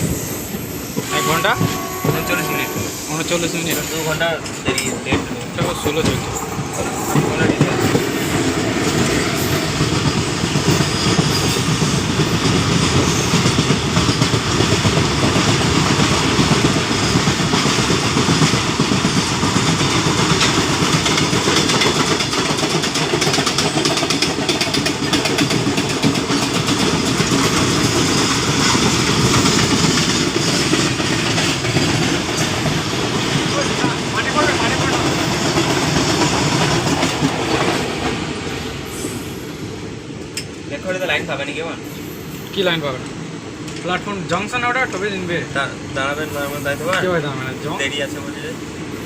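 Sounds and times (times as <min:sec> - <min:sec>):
train wheels rumbling and rattling: 0:00.0 - 0:49.0.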